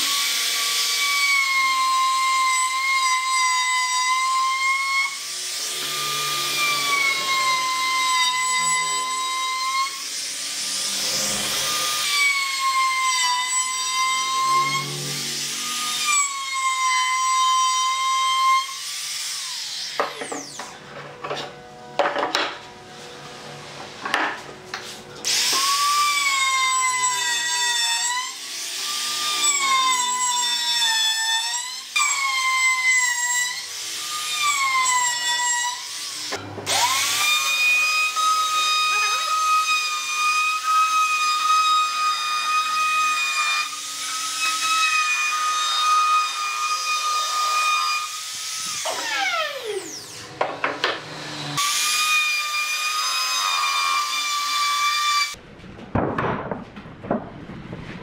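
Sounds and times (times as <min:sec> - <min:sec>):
electric router whining: 0:05.1 - 0:18.0, 0:18.7 - 0:32.9, 0:33.5 - 0:55.4.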